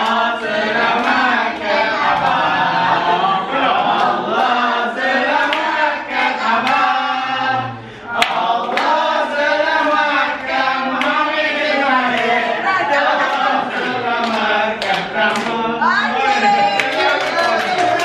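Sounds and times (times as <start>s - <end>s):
group singing a birthday song: 0.0s - 18.0s
people clapping: 0.0s - 18.0s.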